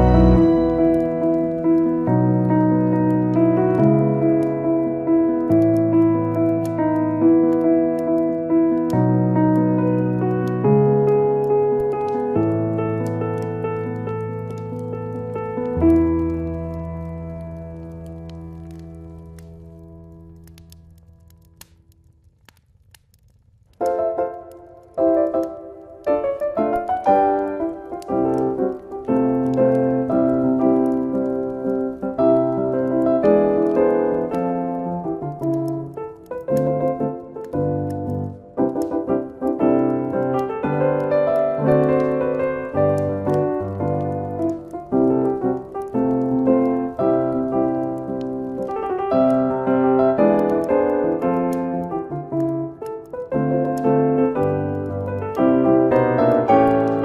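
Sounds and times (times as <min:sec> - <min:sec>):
soft piano music: 0:00.0 - 0:21.8, 0:23.7 - 0:57.0.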